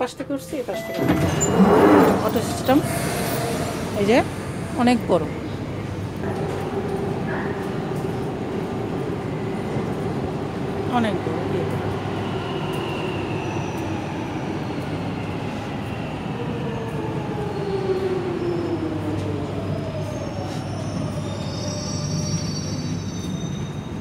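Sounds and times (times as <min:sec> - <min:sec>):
train rumbling through station: 0:00.0 - 0:24.0.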